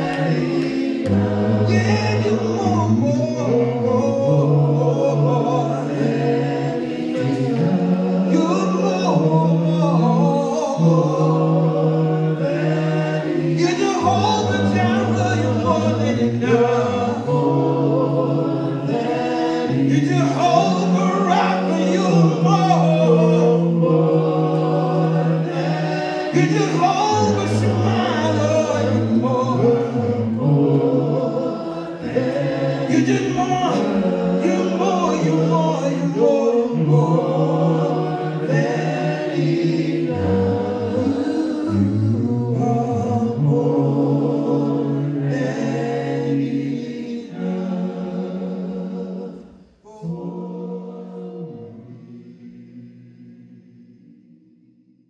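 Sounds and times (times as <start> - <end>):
men's vocal group singing a cappella: 0.0 - 54.4.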